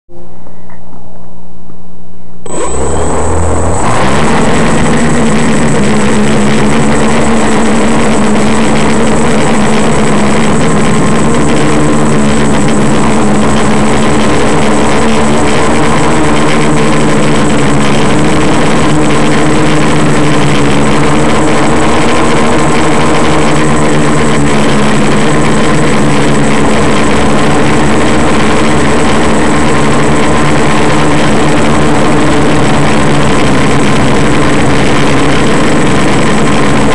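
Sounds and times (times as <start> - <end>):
quadcopter motors humming: 2.4 - 36.9.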